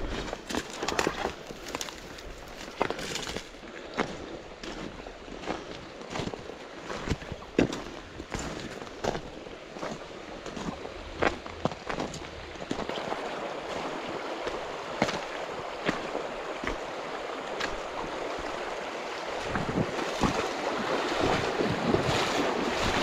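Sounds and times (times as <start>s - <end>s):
creek water over gravel: 0.0s - 23.0s.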